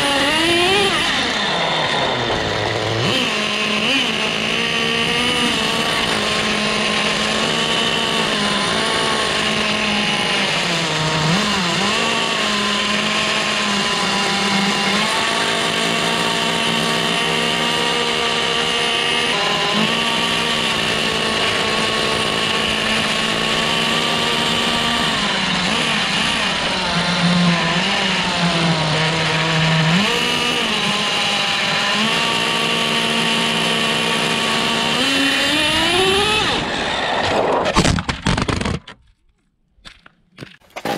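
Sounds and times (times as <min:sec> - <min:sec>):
model truck nitro engine revving: 0:00.0 - 0:38.8.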